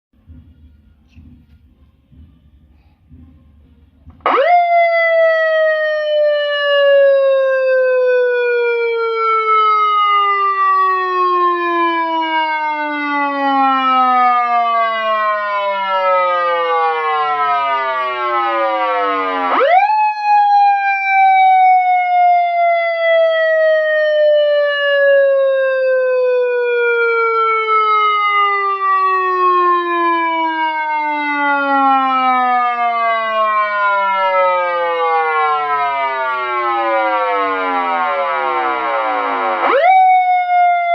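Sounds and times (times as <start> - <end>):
police siren wailing: 0.2 - 40.9.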